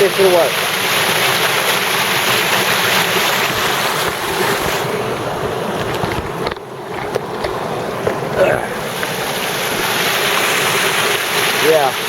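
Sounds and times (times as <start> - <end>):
creek water rushing over dam: 0.0 - 12.0.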